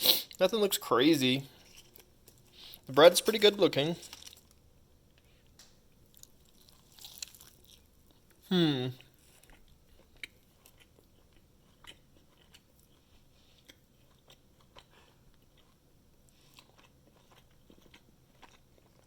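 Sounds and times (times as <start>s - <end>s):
faint chewing with crunches: 1.4s - 19.0s.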